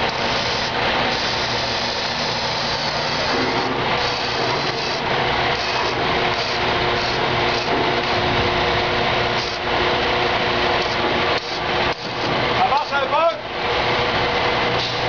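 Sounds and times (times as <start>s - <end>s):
electric winch motor whirring: 0.0s - 15.0s.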